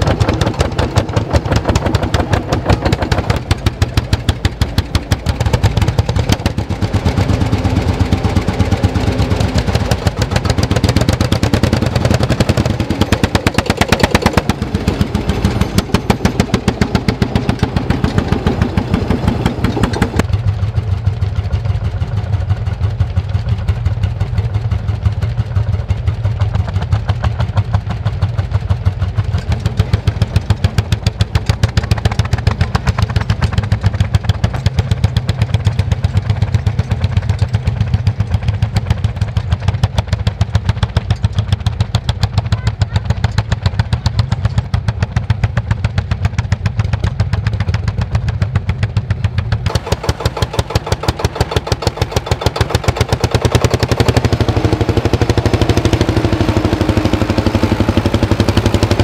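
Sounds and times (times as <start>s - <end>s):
tractor engines thumping: 0.0s - 59.0s.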